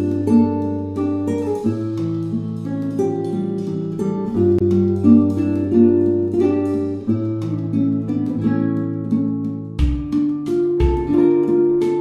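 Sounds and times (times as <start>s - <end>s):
plucked guitar instrumental: 0.0s - 12.0s.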